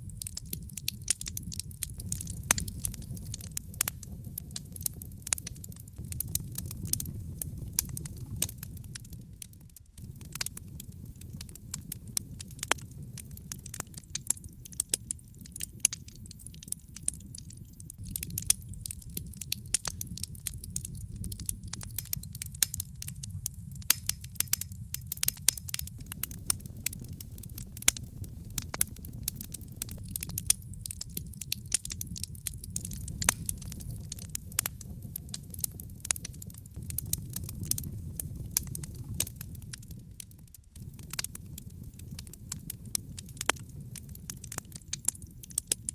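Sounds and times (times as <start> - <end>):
fire pops and snaps: 0.0 - 45.9
low rumble of burning logs: 0.0 - 45.9.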